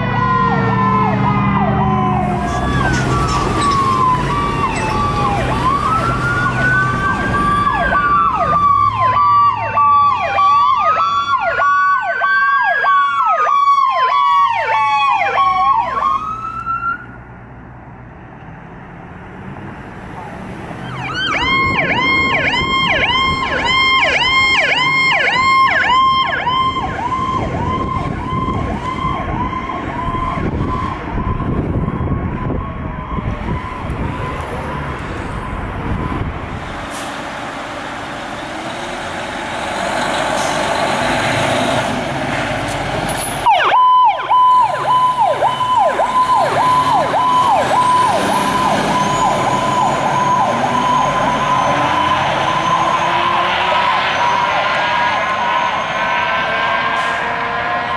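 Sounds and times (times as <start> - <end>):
electronic sirens sweeping: 0.0 - 17.2, 19.9 - 37.4, 43.3 - 57.9
rumble of passing vehicle: 0.0 - 57.9
traffic: 0.0 - 57.9.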